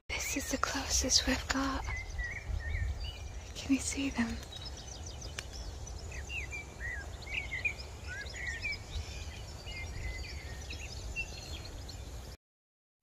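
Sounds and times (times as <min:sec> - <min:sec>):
songbirds singing: 0:00.1 - 0:12.4.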